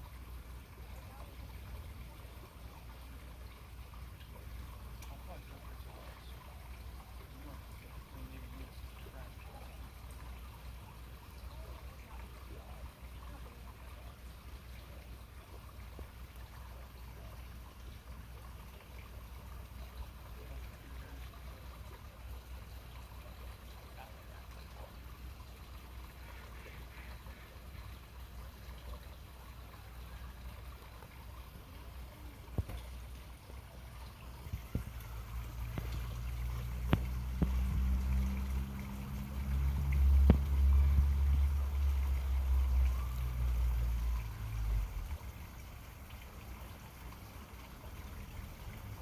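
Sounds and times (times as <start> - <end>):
water trickling: 0.0 - 49.0.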